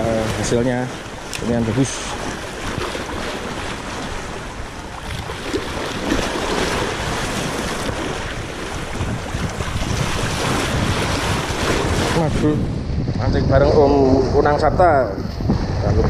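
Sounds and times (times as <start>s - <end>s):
sea waves washing at shore: 0.0s - 16.0s
wind buffeting microphone: 0.0s - 16.0s.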